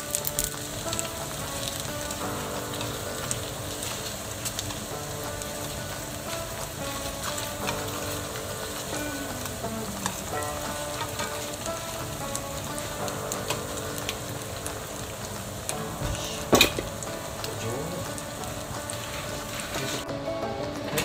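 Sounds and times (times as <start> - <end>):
dumplings sizzling in oil: 0.0 - 20.1.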